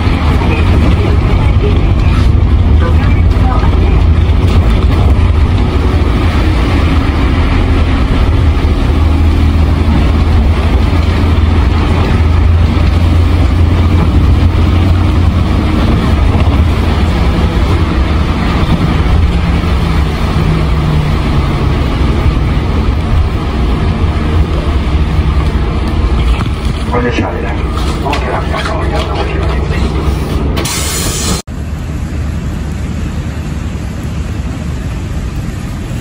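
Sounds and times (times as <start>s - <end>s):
bus diesel engine idling: 0.0s - 36.0s.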